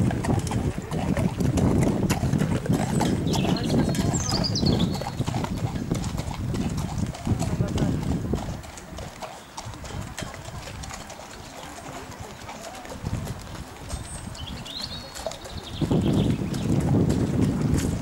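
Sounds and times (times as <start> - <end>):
soft hoofbeats on sand: 0.0 - 18.0
wind buffeting microphone: 0.0 - 18.0.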